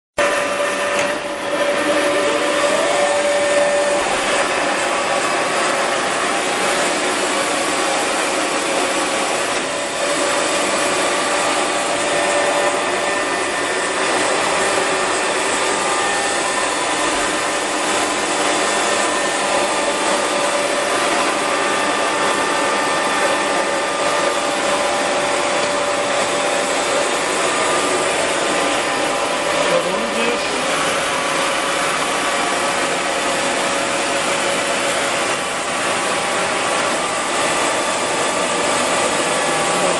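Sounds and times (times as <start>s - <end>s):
milling machine whine and hum: 0.2s - 39.9s.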